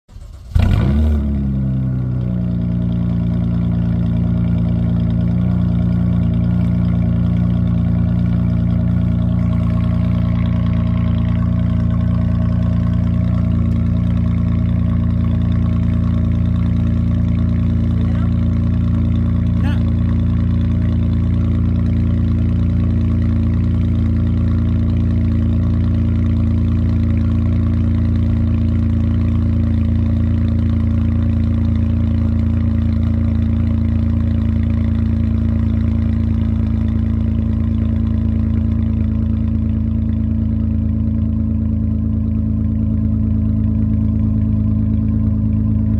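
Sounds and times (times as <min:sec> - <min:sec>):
car engine idling through exhaust: 0:00.1 - 0:45.9.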